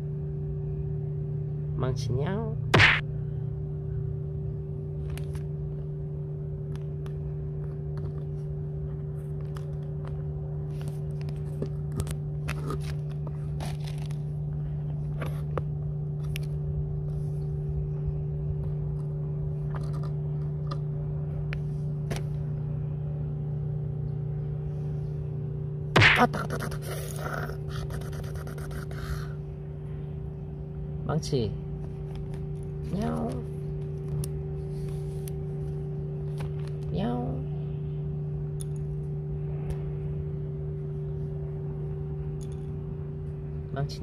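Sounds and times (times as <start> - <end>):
low machine hum: 0.0 - 44.0.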